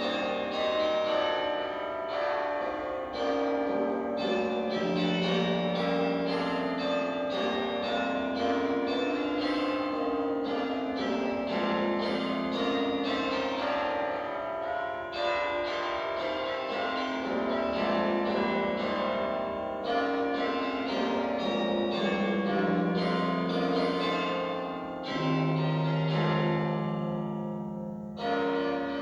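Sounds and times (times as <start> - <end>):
church bells pealing: 0.0 - 29.0.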